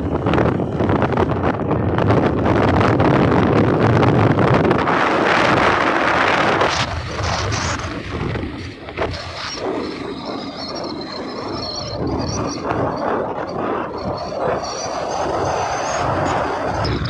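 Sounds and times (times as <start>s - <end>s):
road noise: 0.0s - 17.0s
wind rushing over microphone: 0.0s - 17.0s.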